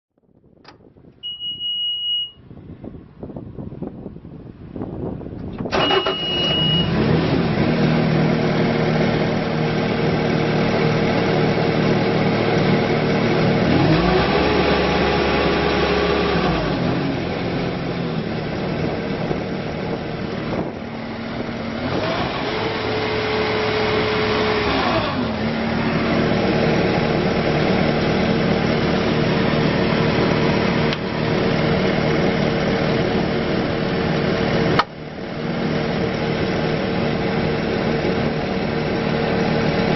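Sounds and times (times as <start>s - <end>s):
diesel engine revving: 5.5s - 39.9s.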